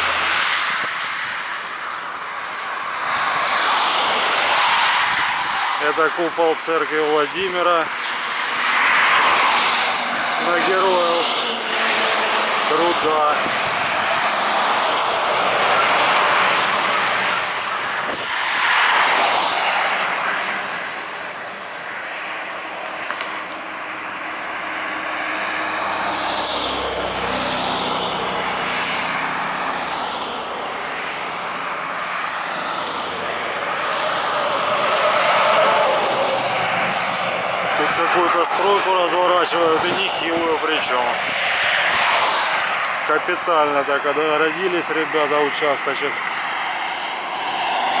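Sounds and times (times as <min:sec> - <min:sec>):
cars passing on a highway: 0:00.0 - 0:48.0.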